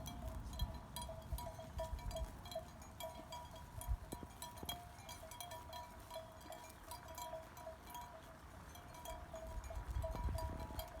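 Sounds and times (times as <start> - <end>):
livestock bells clinking: 0.0 - 11.0.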